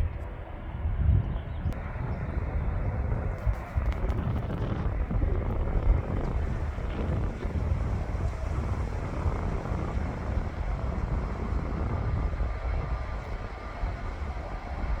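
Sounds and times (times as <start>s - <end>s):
aircraft engine rumble: 0.0s - 15.0s
wind buffeting microphone: 0.0s - 15.0s.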